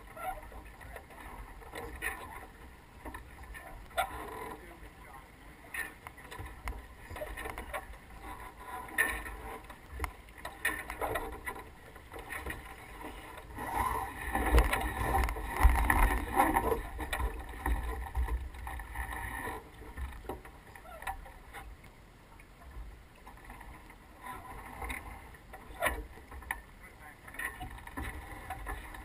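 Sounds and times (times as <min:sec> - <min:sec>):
rustling and knocks of rigging: 0:00.0 - 0:29.0.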